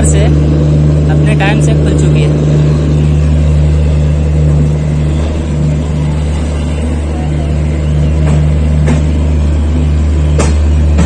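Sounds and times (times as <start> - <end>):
diesel generator low drone: 0.0 - 11.0.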